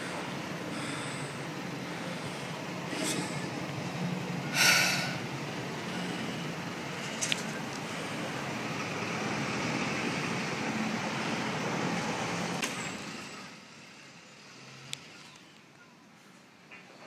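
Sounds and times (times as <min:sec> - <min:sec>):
vehicle rumble and hiss: 0:00.0 - 0:17.0.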